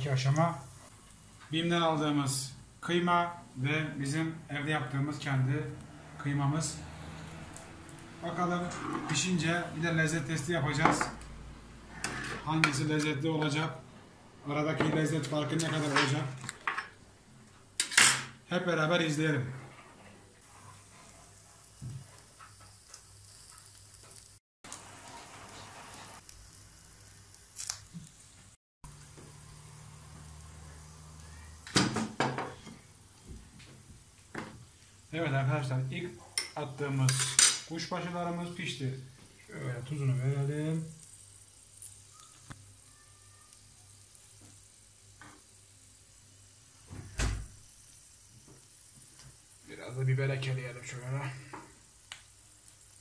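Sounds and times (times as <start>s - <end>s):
meat skewers sizzling: 0.0s - 13.7s, 20.4s - 53.0s.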